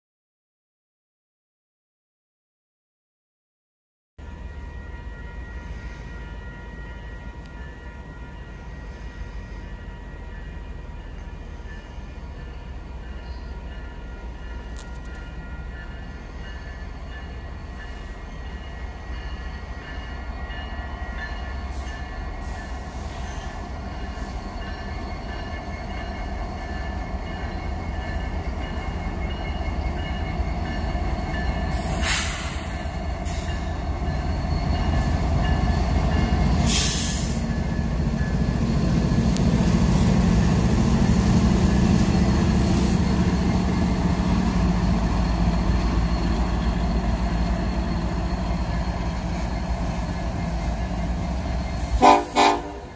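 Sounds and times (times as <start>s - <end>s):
diesel locomotive engine rumble: 4.2s - 52.9s.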